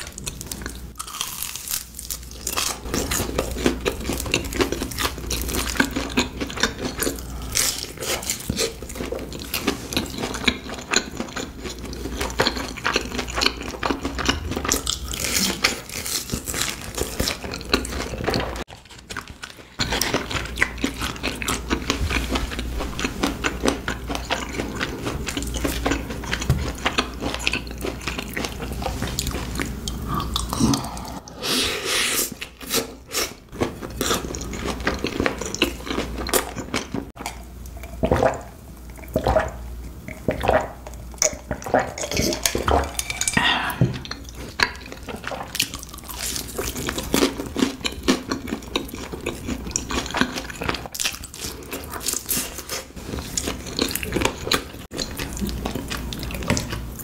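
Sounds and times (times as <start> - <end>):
mouth chewing food: 0.0 - 31.5, 32.2 - 57.0.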